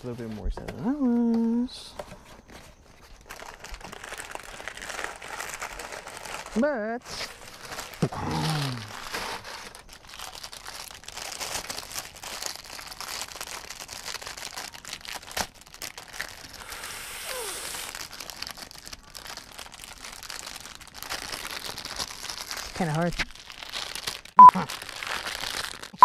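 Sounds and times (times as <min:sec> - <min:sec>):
plastic and tissue paper crinkling: 0:02.2 - 0:26.0.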